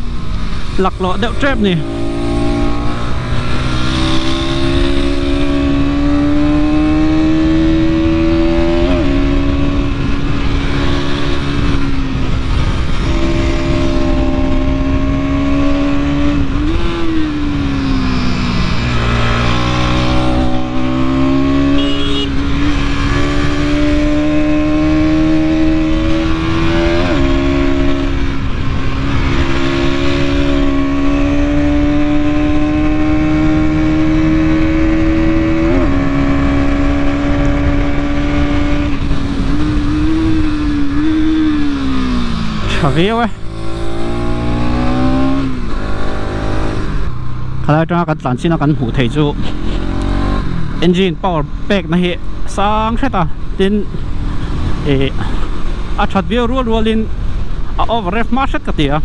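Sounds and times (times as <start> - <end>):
motorcycle engine running: 0.0 - 47.6
wind rush: 0.0 - 47.7, 48.8 - 58.7.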